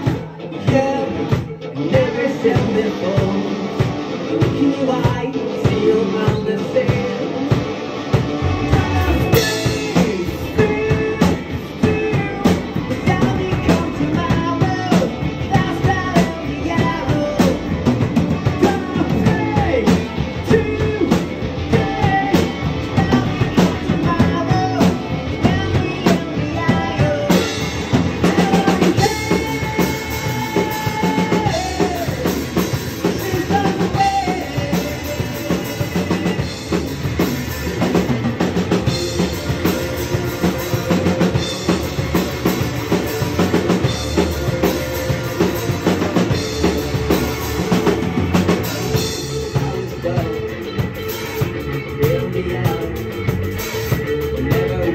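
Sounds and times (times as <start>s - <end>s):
drum kit beat: 0.0s - 54.9s
rock band playing live: 0.0s - 54.9s.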